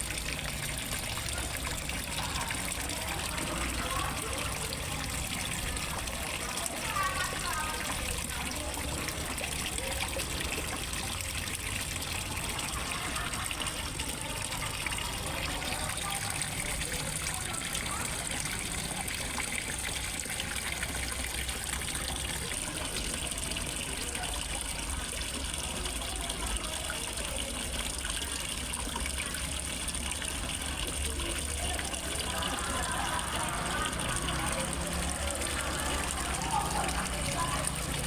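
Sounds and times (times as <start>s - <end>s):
water splashing into pond: 0.0s - 38.0s.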